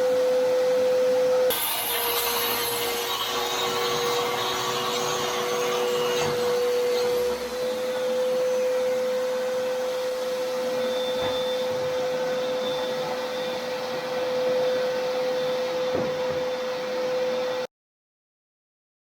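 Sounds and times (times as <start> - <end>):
small electric motor whining: 1.4 - 17.6.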